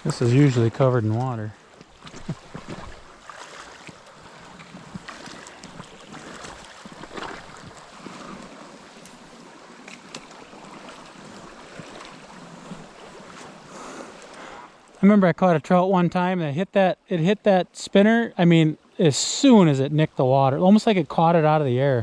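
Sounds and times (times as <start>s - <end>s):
creek water flowing: 0.0s - 22.0s.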